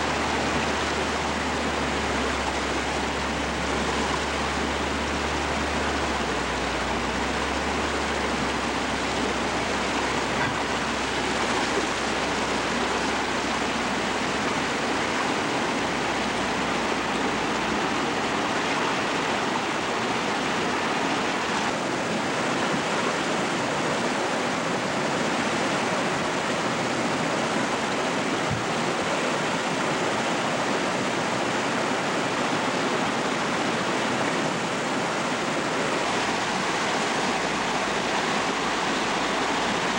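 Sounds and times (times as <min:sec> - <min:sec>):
river rushing in flood: 0:00.0 - 0:39.9.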